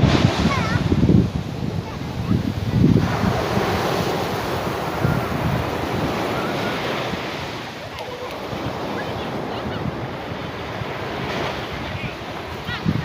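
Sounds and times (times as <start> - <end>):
sea waves breaking on beach: 0.0 - 13.0
wind buffeting microphone: 0.0 - 13.0.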